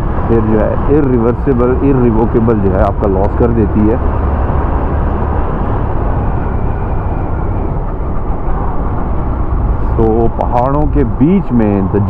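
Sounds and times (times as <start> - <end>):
motorcycle engine drone: 0.0 - 12.0
road noise: 0.0 - 12.0
wind on microphone: 0.0 - 12.0.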